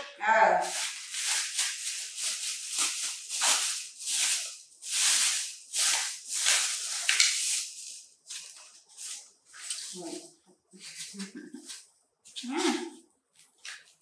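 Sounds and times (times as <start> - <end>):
plastic bag crinkling: 0.6 - 14.0.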